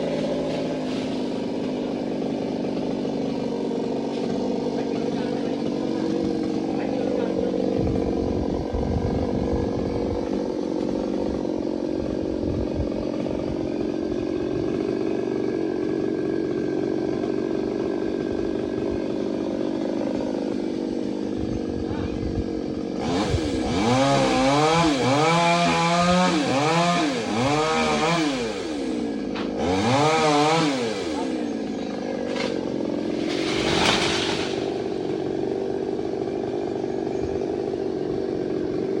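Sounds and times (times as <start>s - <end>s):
chainsaw cutting tree trunk: 0.0s - 39.0s.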